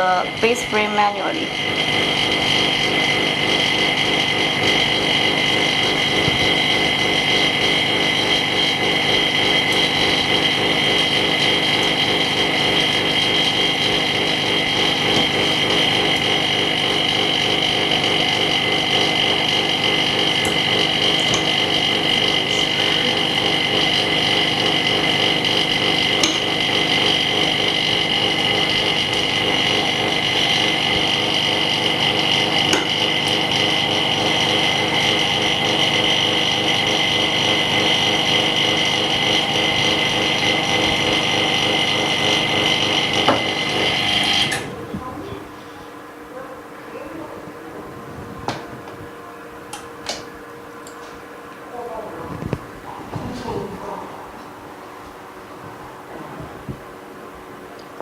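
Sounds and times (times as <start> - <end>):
small machine humming and whining: 0.0 - 58.0.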